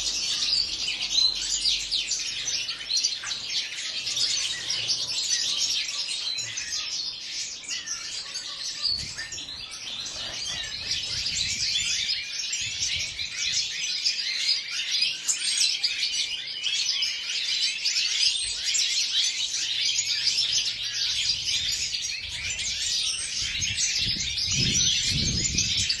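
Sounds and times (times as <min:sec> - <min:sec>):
goldfinches chirping and twittering: 0:00.0 - 0:26.0.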